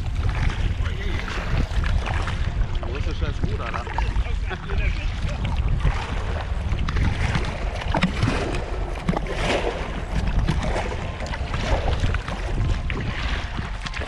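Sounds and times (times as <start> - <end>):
kayak paddle splashing water: 0.0 - 14.0
wind rumble on microphone: 0.0 - 14.0.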